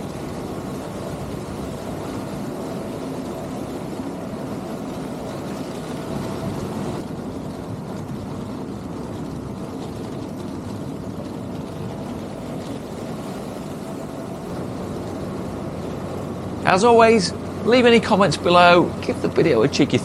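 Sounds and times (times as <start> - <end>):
combine harvester machinery drone: 0.0 - 20.0.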